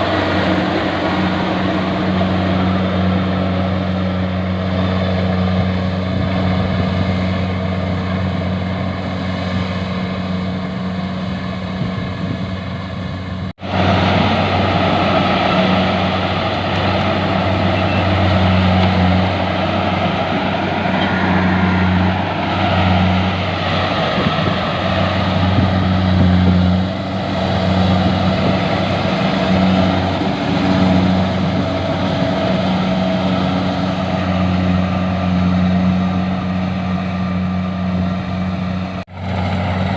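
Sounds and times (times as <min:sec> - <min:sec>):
harvesting machine engine humming: 0:00.0 - 0:39.9.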